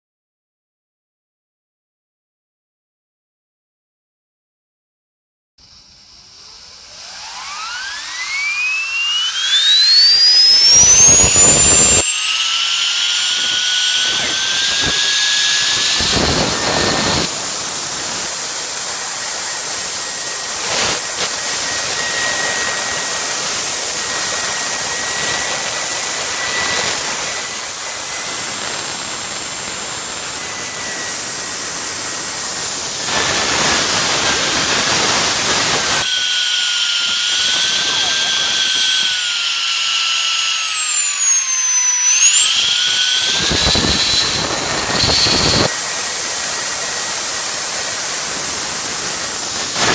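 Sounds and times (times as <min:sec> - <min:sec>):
toy turbo whistle whining: 0:06.8 - 0:49.9.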